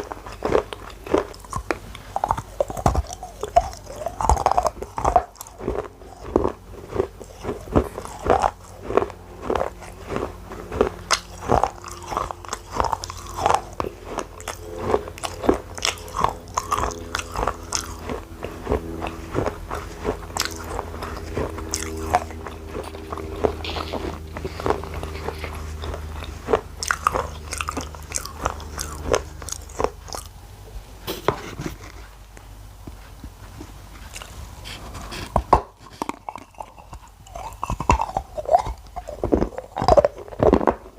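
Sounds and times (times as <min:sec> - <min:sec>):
person chewing baked clay: 0:00.0 - 0:40.9
steady low hum: 0:00.0 - 0:40.9.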